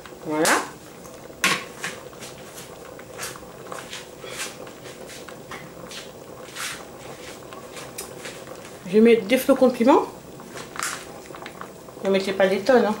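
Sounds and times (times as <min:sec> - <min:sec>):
food sizzling with crackles and pops: 0:00.0 - 0:13.0.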